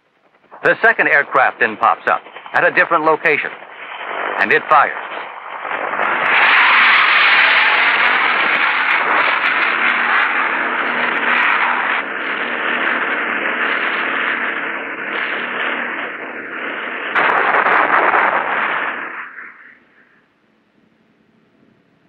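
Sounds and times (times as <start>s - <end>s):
helicopter rotor and turbine: 0.2s - 20.3s.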